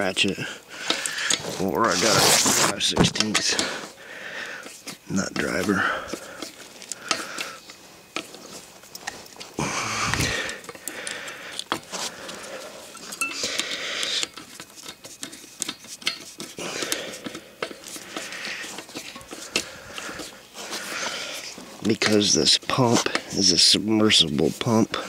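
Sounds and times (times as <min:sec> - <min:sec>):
hose clamps rasping: 0:00.8 - 0:04.0, 0:04.6 - 0:25.0.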